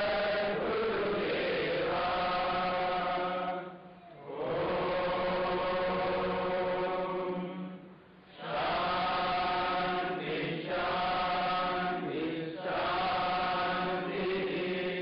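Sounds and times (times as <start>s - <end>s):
mantra chanting: 0.0s - 15.0s.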